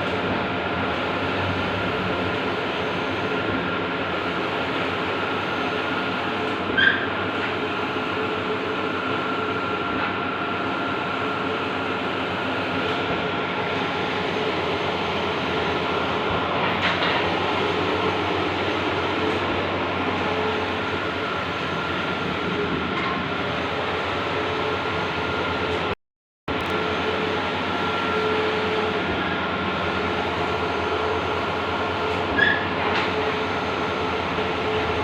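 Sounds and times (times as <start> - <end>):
high steady whine: 0.0 - 35.0
printer mechanical whir: 0.0 - 35.0.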